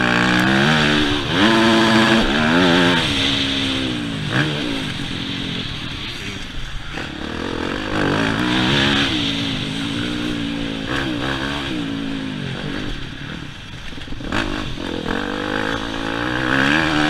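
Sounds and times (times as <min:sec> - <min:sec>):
motocross engine revving: 0:00.0 - 0:17.0.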